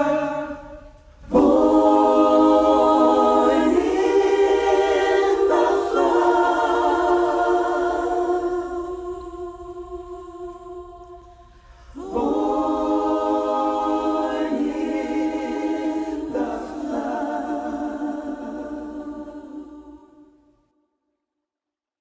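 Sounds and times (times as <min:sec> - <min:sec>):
singers in close harmony: 0:00.0 - 0:20.5.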